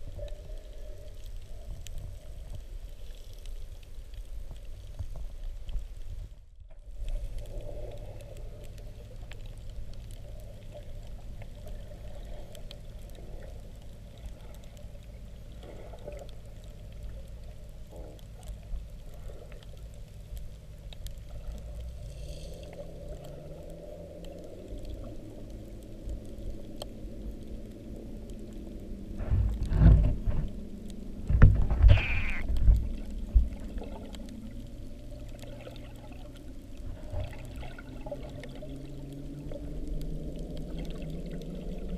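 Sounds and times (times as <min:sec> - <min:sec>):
faint crackling clicks: 0:00.0 - 0:41.9
faint low hum: 0:00.0 - 0:41.9
muffled underwater rumble: 0:00.0 - 0:41.9.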